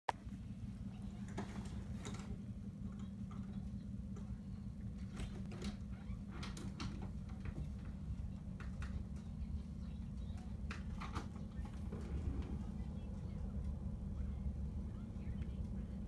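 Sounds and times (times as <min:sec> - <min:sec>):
truck engine rumbling: 0:00.1 - 0:16.0.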